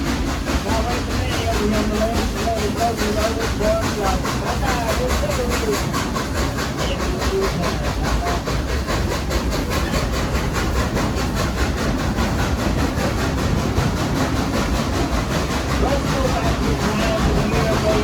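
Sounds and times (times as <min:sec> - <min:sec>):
steam train rhythmic beat: 0:00.0 - 0:18.0.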